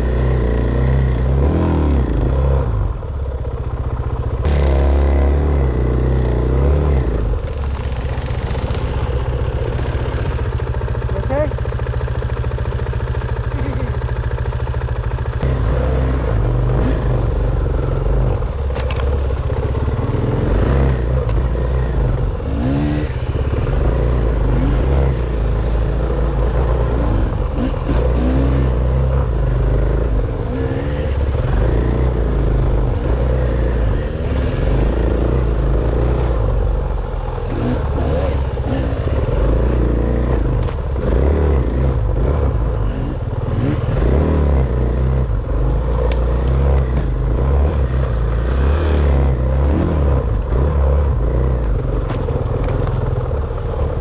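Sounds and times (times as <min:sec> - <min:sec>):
dirt bike engine revving: 0:00.0 - 0:03.0, 0:04.3 - 0:18.8, 0:19.4 - 0:52.9.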